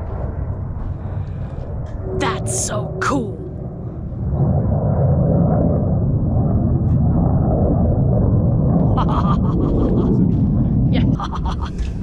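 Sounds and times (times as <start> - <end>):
jet engine roar overhead: 0.0 - 11.0.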